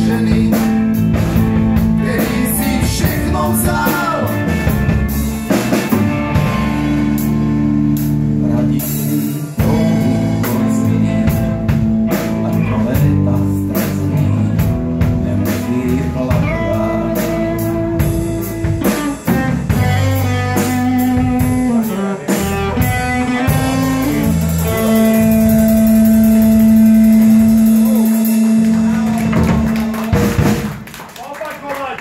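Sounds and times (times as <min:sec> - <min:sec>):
bass guitar: 0:00.0 - 0:31.0
electric guitar: 0:00.0 - 0:31.0
drum kit: 0:00.0 - 0:31.2.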